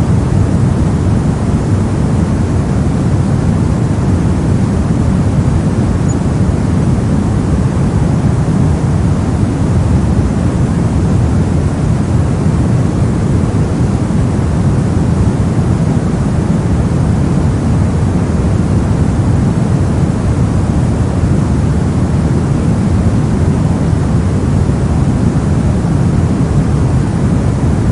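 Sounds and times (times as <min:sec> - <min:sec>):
deep-toned white noise: 0:00.0 - 0:27.9.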